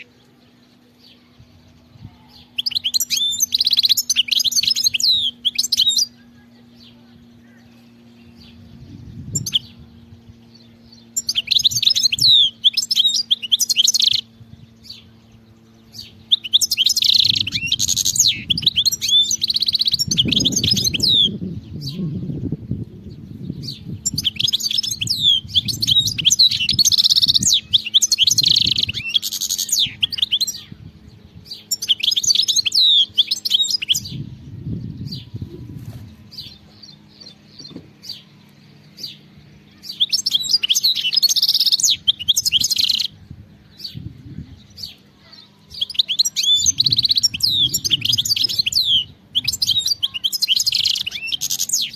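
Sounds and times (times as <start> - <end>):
goldfinch twittering: 0.0 - 22.4, 23.4 - 51.9
buzzy bird trill: 0.0 - 51.9.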